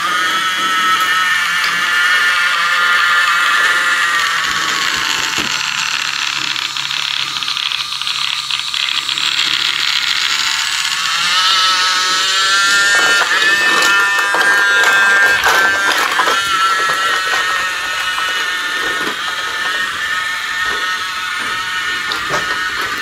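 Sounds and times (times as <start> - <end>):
toy train motor whining: 0.0 - 23.0.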